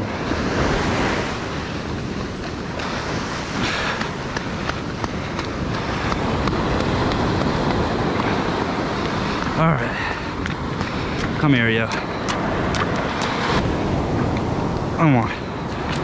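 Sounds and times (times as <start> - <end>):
surf washing over sand: 0.0 - 16.0
wind buffeting microphone: 0.0 - 16.0.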